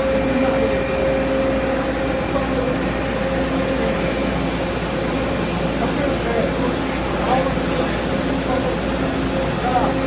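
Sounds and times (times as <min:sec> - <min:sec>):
mixing machine humming: 0:00.0 - 0:10.0.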